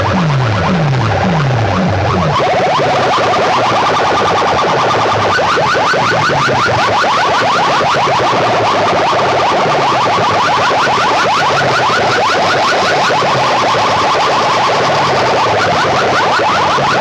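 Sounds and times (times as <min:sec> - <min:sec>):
pulsing bass: 0:00.0 - 0:17.0
rapid rising electronic chirps: 0:00.0 - 0:17.0.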